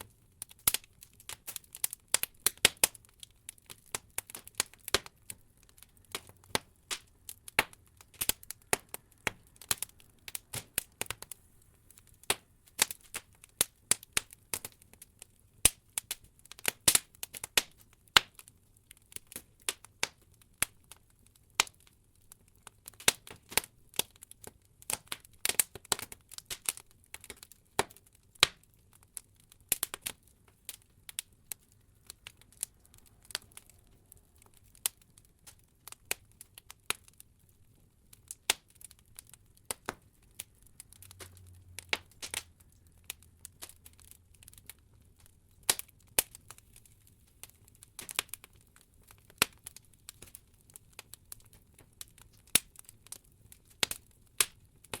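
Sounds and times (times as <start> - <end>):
wood logs crackling in fireplace: 0.0 - 55.0.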